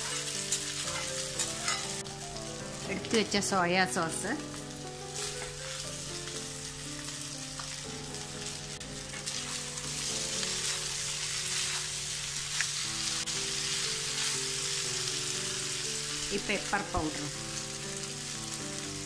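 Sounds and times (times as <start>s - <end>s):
noodles sizzling in a hot pan: 0.0s - 19.0s.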